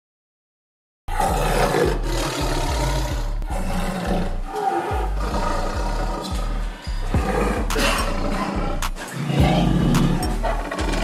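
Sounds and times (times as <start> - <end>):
dramatic music with heavy bass: 1.1 - 11.0
tiger roaring and growling: 1.1 - 11.0.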